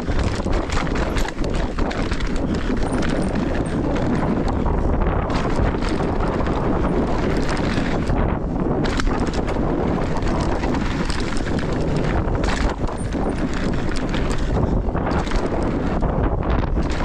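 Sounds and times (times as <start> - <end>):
bike rattling: 0.0 - 17.0
tyres on wooden boardwalk: 0.0 - 17.0
tyres rolling over dirt: 0.0 - 17.0
wind buffeting microphone: 0.0 - 17.0.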